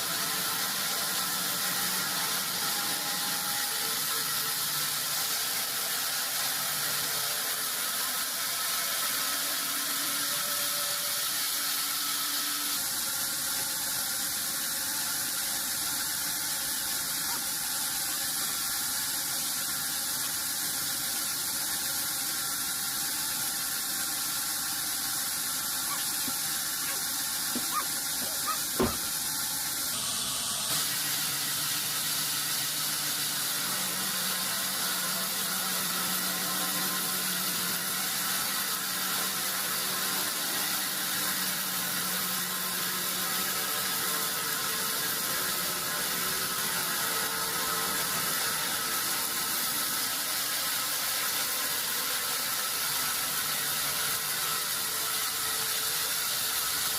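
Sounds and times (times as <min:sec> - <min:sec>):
hissing machine noise: 0:00.0 - 0:56.9.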